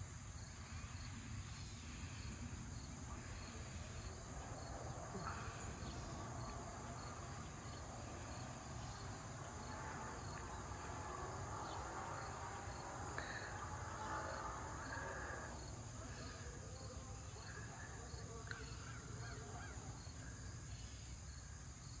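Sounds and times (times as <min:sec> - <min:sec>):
insects trilling: 0:00.0 - 0:22.0
repeating insect chirp: 0:00.0 - 0:22.0.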